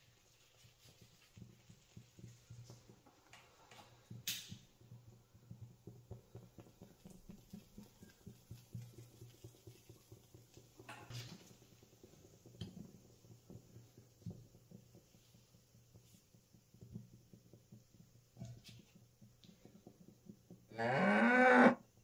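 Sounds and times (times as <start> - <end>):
flames fluttering: 0.0 - 20.8.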